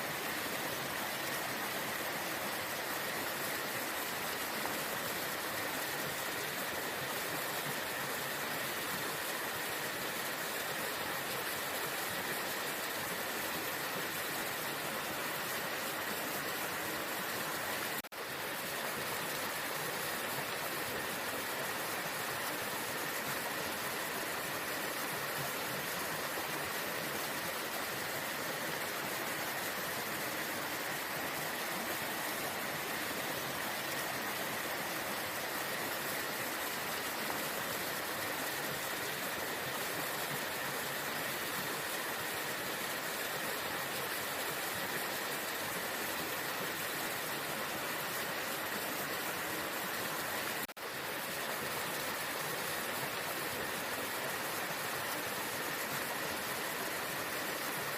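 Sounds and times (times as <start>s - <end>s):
waterfall rushing: 9.4s - 57.9s.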